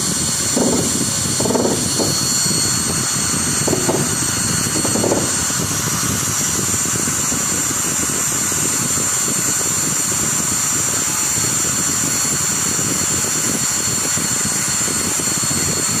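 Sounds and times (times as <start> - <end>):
machine running with high whine: 0.0 - 16.0.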